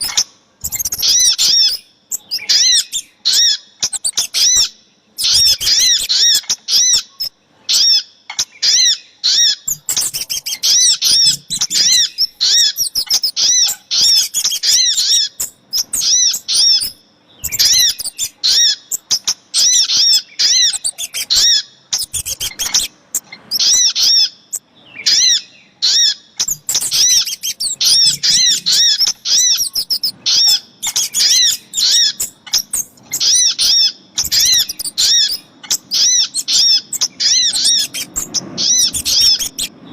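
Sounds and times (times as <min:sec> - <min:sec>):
high arched bird chirps: 0:00.0 - 0:39.9.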